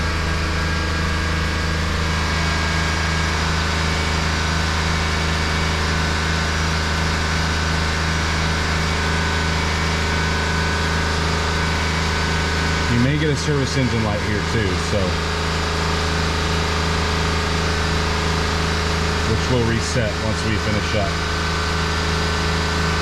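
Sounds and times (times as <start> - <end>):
car engine high idle: 0.0 - 23.0.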